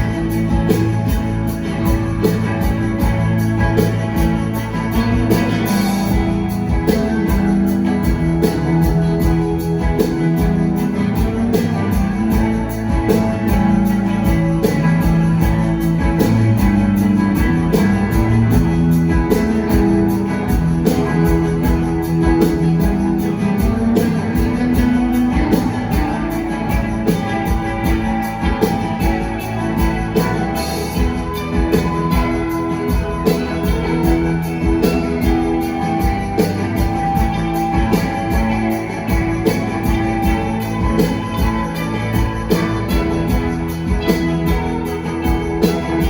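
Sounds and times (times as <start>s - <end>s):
drum beat: 0.0s - 46.0s
electric guitars strumming: 0.0s - 46.0s.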